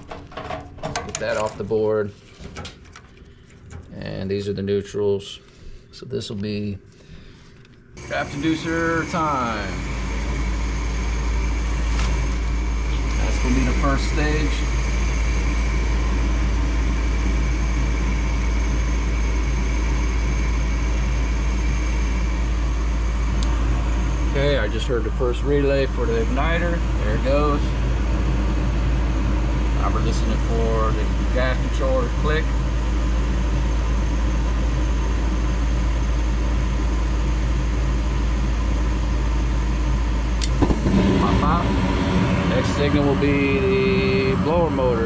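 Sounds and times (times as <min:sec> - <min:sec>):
furnace motor humming: 0:00.0 - 0:45.0.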